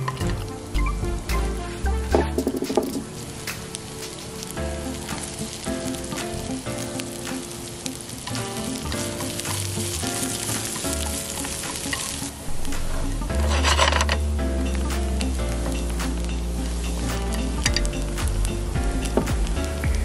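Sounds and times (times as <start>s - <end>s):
onions sizzling in a frying pan: 0.0s - 20.0s
soft background music: 0.0s - 20.0s.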